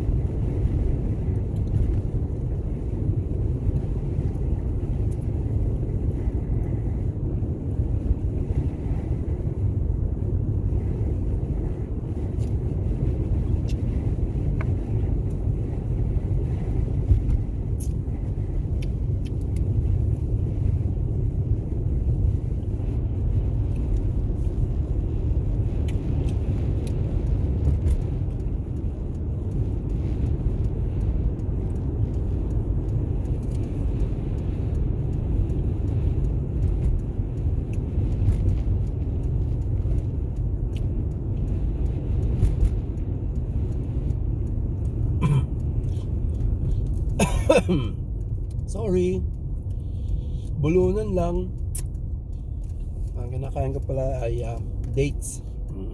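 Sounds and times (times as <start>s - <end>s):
car cabin road rumble: 0.0s - 55.9s.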